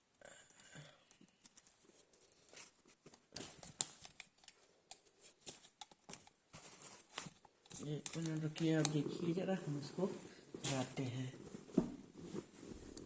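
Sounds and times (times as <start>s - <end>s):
rustling: 1.1s - 13.0s.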